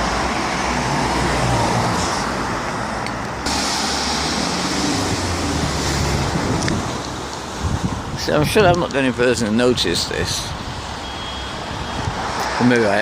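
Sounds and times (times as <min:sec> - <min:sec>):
cars passing close by: 0:00.0 - 0:08.3, 0:09.1 - 0:13.0.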